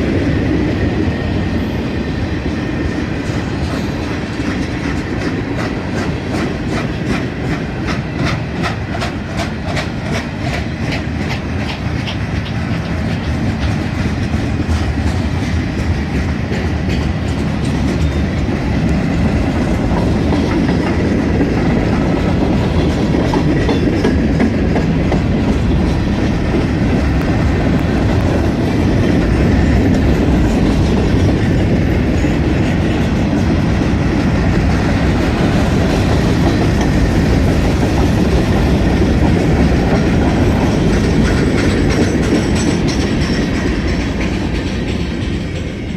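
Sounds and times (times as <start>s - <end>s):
rail rumble: 0.0s - 45.9s
train wheels clicking over rail joints: 0.0s - 45.9s.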